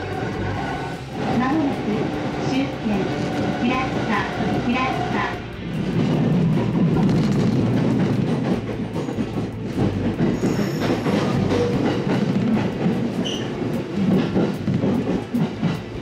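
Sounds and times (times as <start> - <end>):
train rumble and rail clatter: 0.0 - 16.0.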